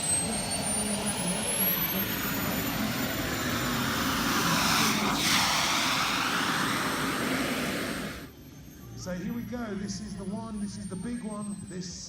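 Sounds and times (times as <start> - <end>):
model jet turbine roaring: 0.0 - 10.3.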